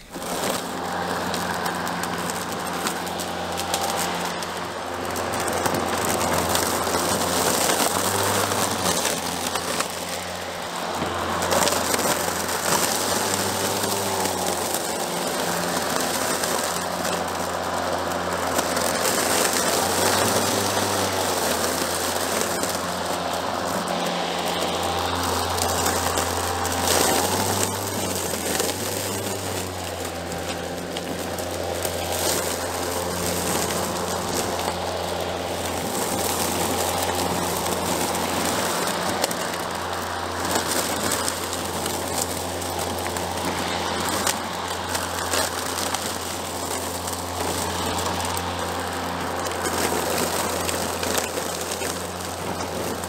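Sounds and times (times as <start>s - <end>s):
electric lawn mower cutting grass: 0.0s - 53.0s.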